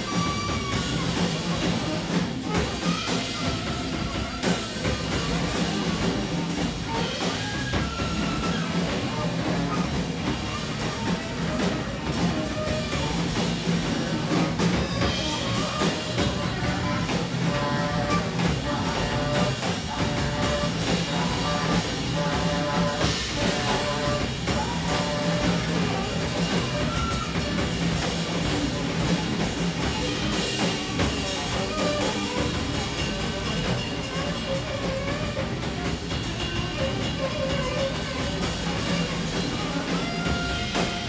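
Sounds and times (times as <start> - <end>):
alto saxophone: 0.0 - 41.0
busy drum kit: 0.0 - 41.0.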